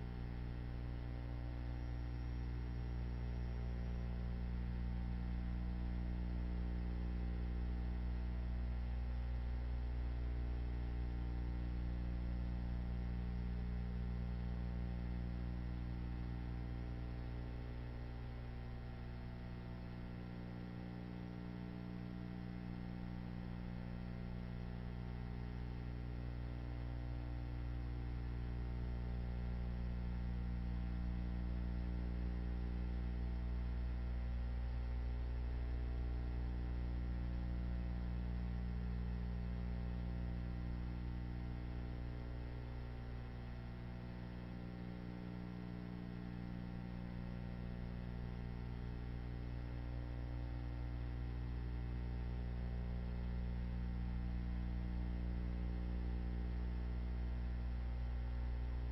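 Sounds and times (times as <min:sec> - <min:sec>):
low electrical hum: 0:00.0 - 0:58.9.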